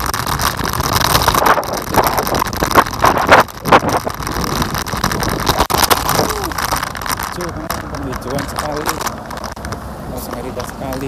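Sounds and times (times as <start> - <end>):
low rumble of scooter ride: 0.0 - 11.0
wind buffeting microphone: 0.0 - 11.0.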